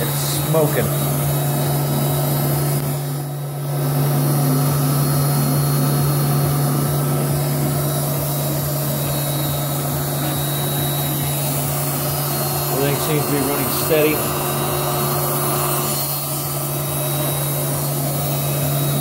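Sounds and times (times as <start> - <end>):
electric blowers droning: 0.0 - 19.0.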